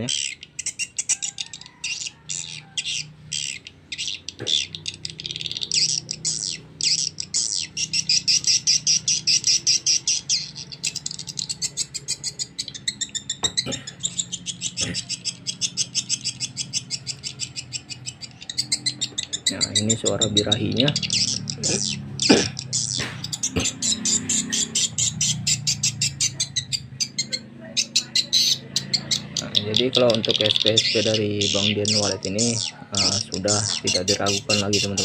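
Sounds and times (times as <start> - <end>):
high chittering bird chirps: 0.0 - 35.0.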